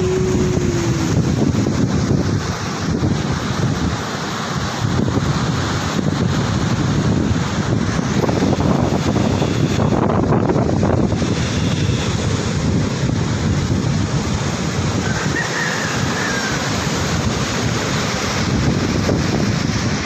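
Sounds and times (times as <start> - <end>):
sea surf washing in: 0.0 - 20.0
wind buffeting microphone: 0.0 - 20.0.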